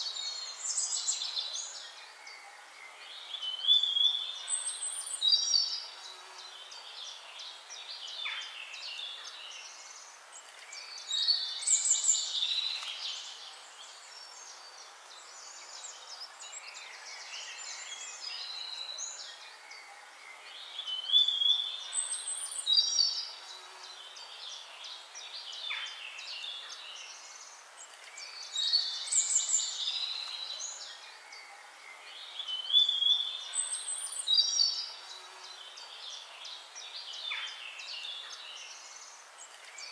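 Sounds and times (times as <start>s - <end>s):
faint steady hiss: 0.0s - 39.9s
songbirds singing and chirping: 0.0s - 39.9s.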